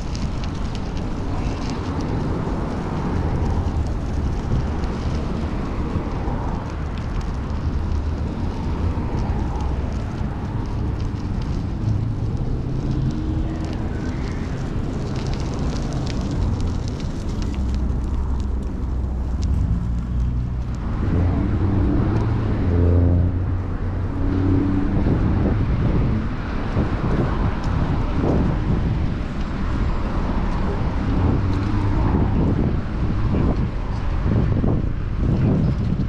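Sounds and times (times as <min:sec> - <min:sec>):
low rumble of road traffic: 0:00.0 - 0:36.0
wind rushing over microphone: 0:00.0 - 0:36.0.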